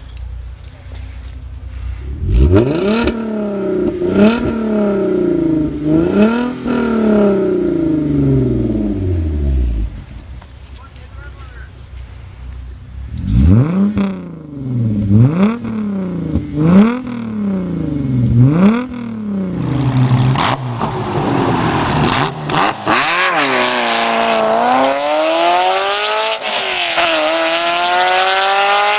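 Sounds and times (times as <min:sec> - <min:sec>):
car engine revving: 0:01.8 - 0:10.2, 0:12.8 - 0:28.9.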